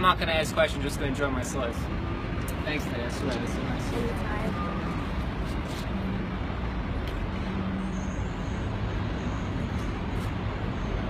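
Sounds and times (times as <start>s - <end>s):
city street traffic: 0.0s - 11.0s
vehicle engine humming: 0.0s - 11.0s.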